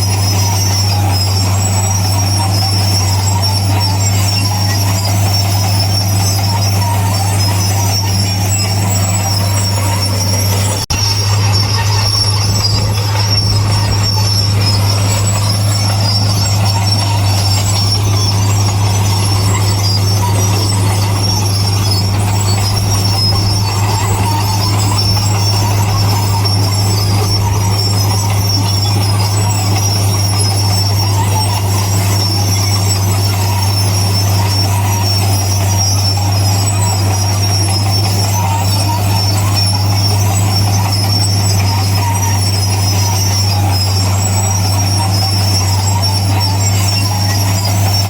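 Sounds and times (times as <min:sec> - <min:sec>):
diesel engine low drone: 0:00.0 - 0:48.0
metallic squealing of steel tracks: 0:00.0 - 0:48.0.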